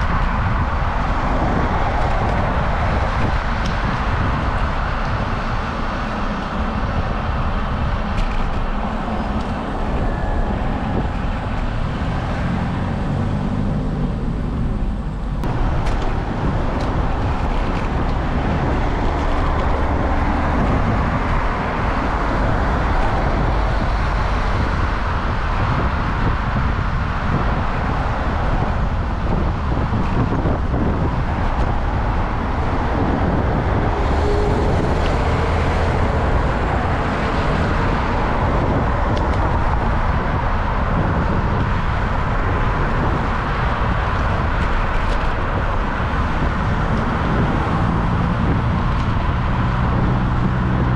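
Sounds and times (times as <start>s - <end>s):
cars passing: 0.0s - 50.9s
steady low rumble: 0.0s - 50.9s
vehicle engine: 0.0s - 50.9s.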